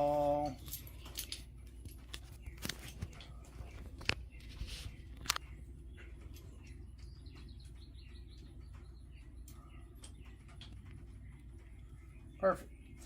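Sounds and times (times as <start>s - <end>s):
faint bird chirping: 0.0s - 13.0s
low steady hum: 0.0s - 13.0s.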